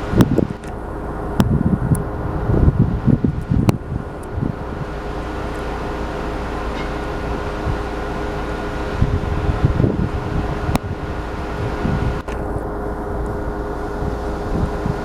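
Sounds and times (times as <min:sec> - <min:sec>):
steady mechanical hum: 0:00.0 - 0:15.0
wind buffeting on microphone: 0:00.0 - 0:15.0.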